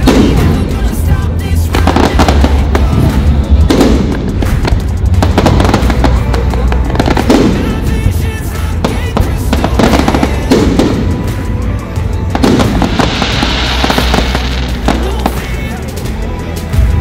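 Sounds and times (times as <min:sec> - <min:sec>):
deep fireworks booms: 0:00.0 - 0:15.9
fireworks crackling and popping: 0:00.0 - 0:17.0.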